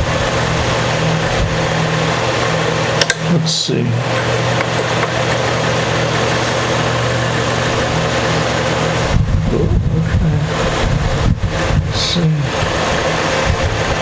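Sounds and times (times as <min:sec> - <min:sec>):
irregular low rumbling: 0:00.0 - 0:03.0, 0:03.9 - 0:14.0
background hum and hiss: 0:00.0 - 0:14.0.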